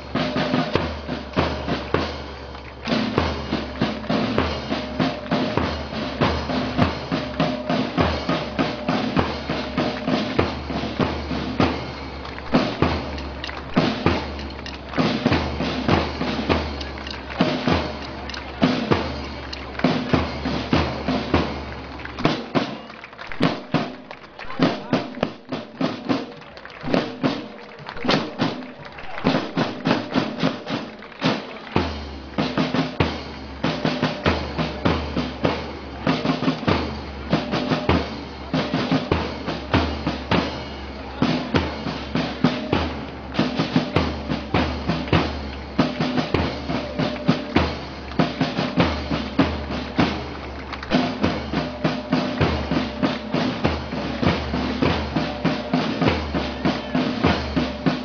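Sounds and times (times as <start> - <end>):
marching band music: 0.0 - 58.0
snare and bass drum strokes: 0.0 - 58.0.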